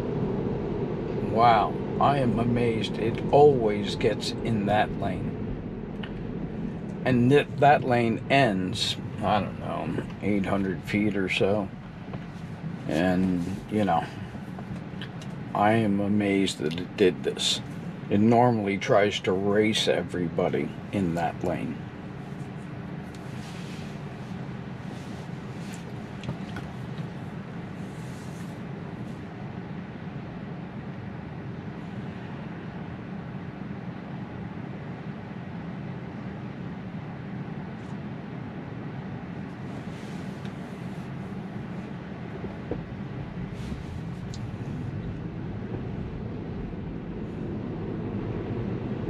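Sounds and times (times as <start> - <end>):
car cabin low hum: 0.0 - 49.0.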